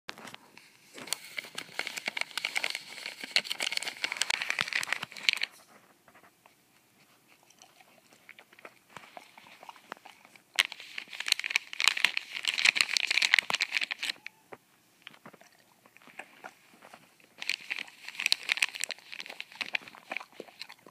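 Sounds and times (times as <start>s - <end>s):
dog crunching dry food: 0.1s - 5.7s, 7.3s - 14.3s, 15.0s - 20.9s.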